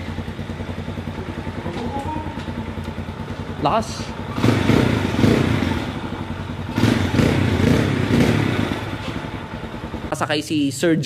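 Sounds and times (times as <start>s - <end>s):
single-cylinder engine revving: 0.0s - 10.3s.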